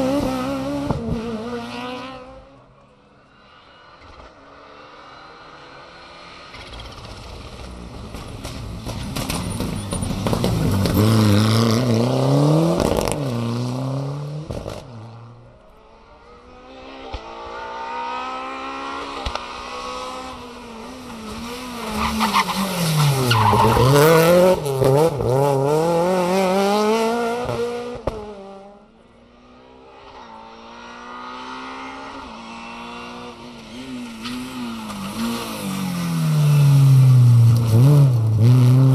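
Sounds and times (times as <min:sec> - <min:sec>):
rally cars passing engines revving: 0:00.0 - 0:38.9.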